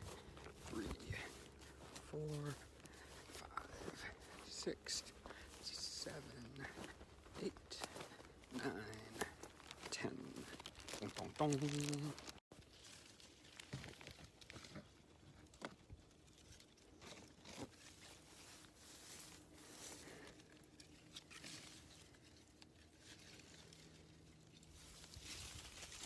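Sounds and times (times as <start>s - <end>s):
rustling and crinkling of vines: 0.0s - 26.0s.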